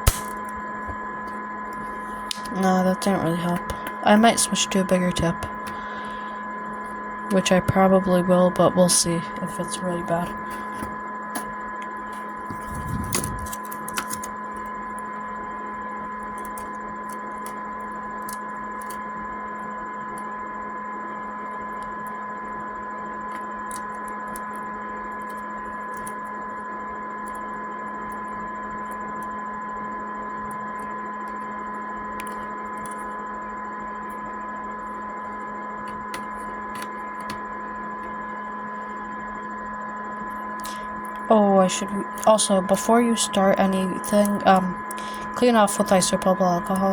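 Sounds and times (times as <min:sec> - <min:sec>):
electrical hum with high whine: 0:00.0 - 0:46.9.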